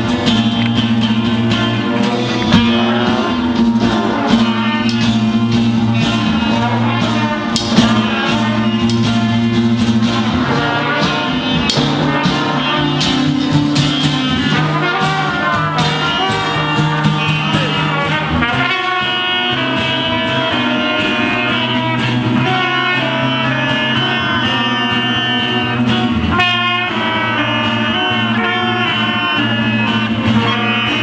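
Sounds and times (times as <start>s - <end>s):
brass horns over band: 0.0s - 31.0s.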